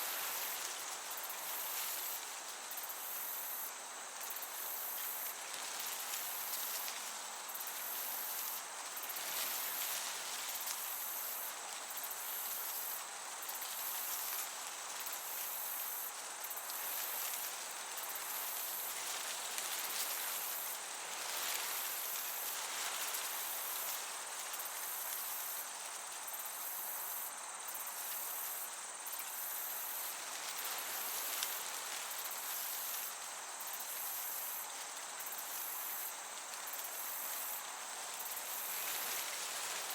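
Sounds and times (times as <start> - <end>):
field crickets chirping: 0.0 - 39.9
gentle breeze hiss: 0.0 - 39.9.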